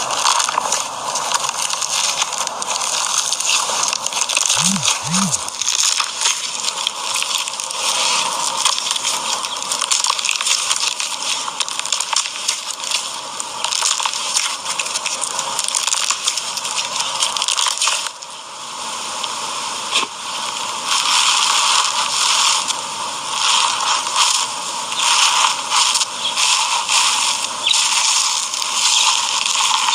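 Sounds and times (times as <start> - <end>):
crunchy slime crackling and popping: 0.0 - 18.2, 23.4 - 29.9.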